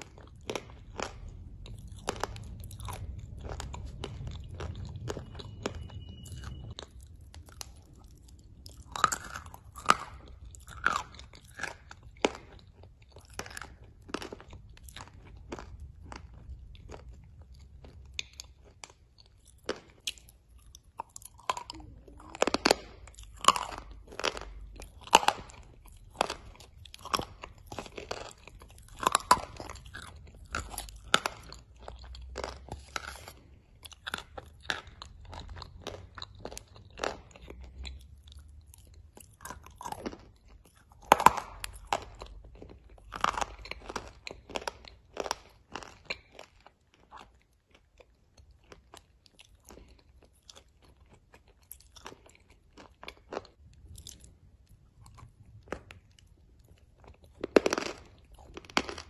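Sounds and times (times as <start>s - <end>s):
chewing and crunching paste: 0.0s - 59.0s.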